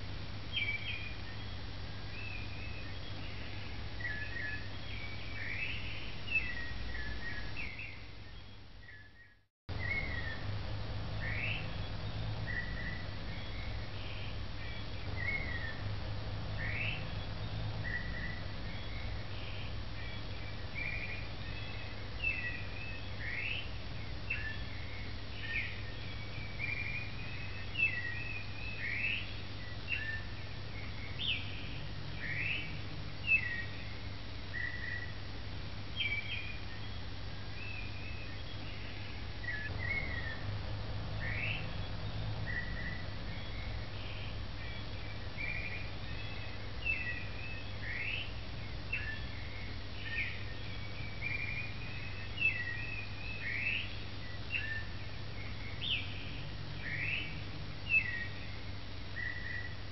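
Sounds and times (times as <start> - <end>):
birds chirping and whistling: 0.5 - 35.2, 36.0 - 59.8
steady low hum: 9.7 - 59.9.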